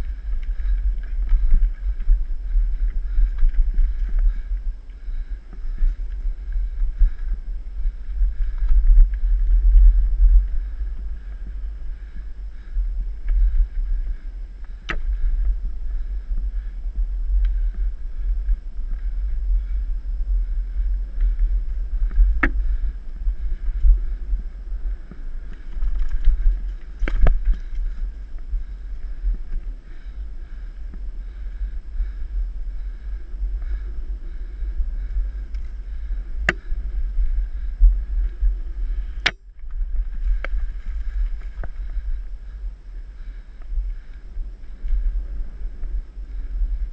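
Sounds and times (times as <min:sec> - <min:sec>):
bike rattling over bumps: 0:00.0 - 0:46.9
wind buffeting microphone: 0:00.0 - 0:46.9.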